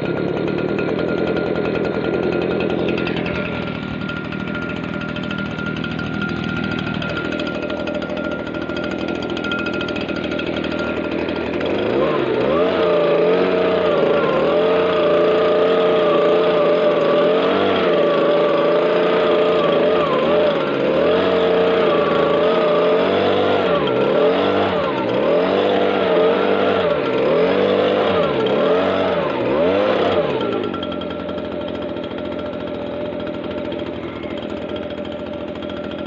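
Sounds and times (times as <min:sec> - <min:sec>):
leaf blower engine revving: 0:00.0 - 0:36.0.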